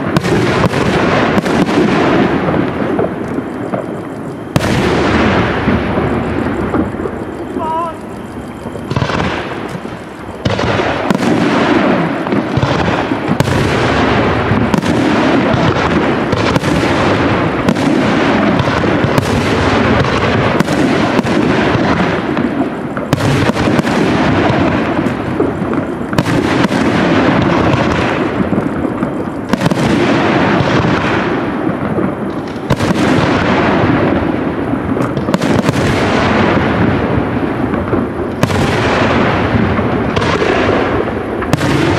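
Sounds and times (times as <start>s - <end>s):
fireworks booming: 0.0s - 41.9s.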